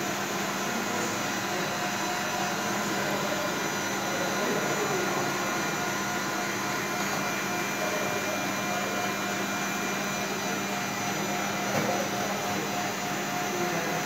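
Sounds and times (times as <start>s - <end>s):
kitchen machinery whirring: 0.0s - 14.0s.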